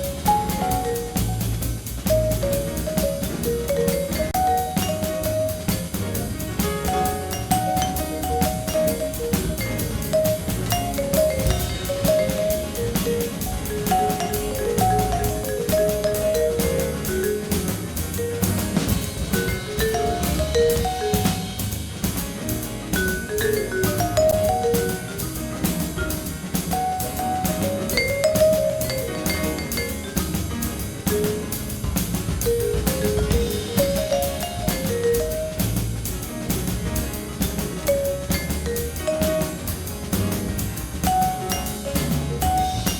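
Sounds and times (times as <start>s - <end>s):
jazzy tune with vibraphone and drums: 0.0s - 42.9s.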